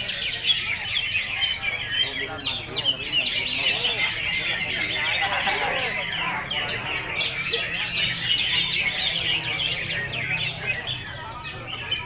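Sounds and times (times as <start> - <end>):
many birds singing: 0.0 - 12.0.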